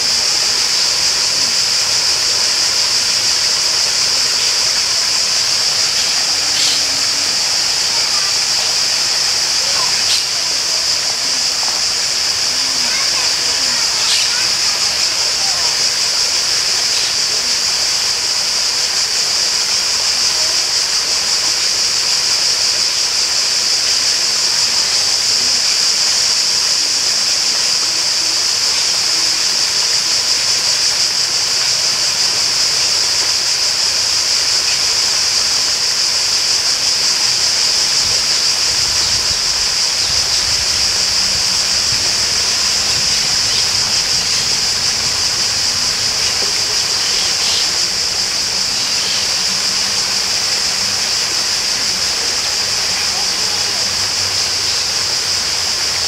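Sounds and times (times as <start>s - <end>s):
high-pitched hiss: 0.0s - 56.0s
running water rushing: 0.0s - 56.0s.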